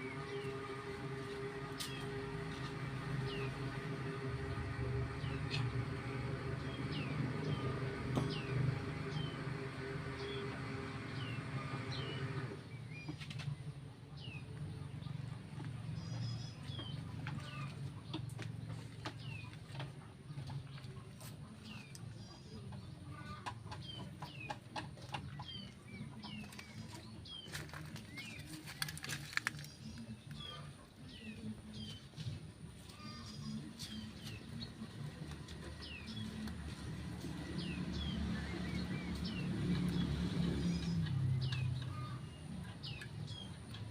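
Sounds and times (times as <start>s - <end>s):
small birds chirping: 6.6s - 43.9s.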